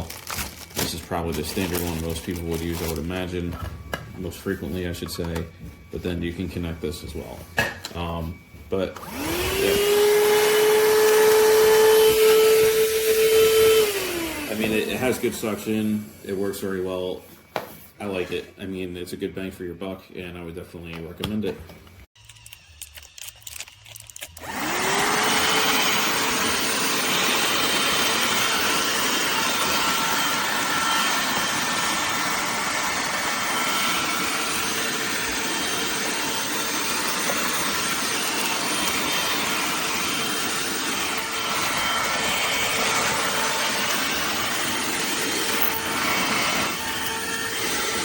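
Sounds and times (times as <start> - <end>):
handheld vacuum running: 0.0 - 17.2, 24.3 - 48.0.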